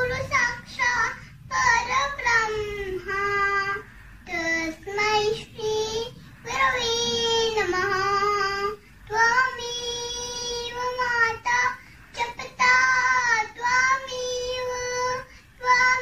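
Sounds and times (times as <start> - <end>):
girl chanting a prayer: 0.0 - 16.0.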